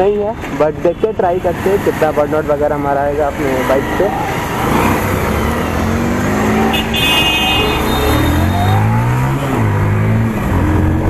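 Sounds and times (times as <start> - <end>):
motorcycle engine revving: 1.4 - 11.0.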